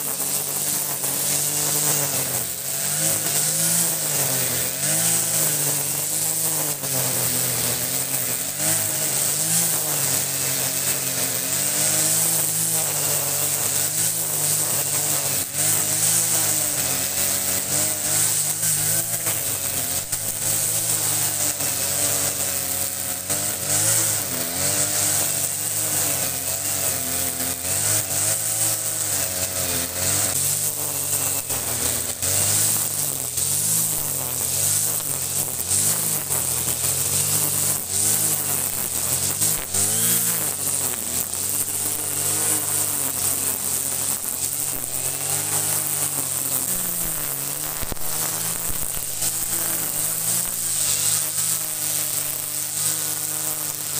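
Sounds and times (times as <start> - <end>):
brush cutter engine cutting grass: 0.0 - 53.9.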